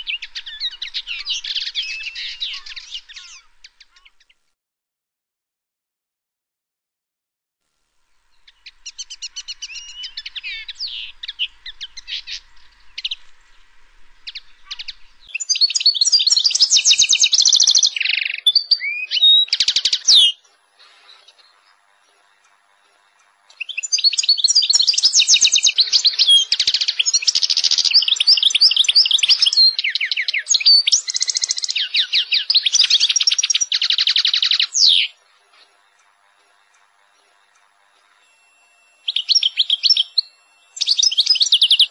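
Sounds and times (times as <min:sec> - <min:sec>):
songbird singing chirps and trills: 0:00.0 - 0:04.6, 0:07.9 - 0:41.9.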